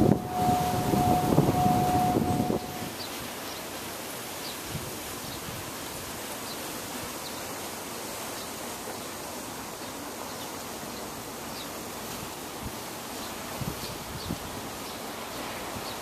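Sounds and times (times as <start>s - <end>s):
wind hissing: 0.0s - 16.0s.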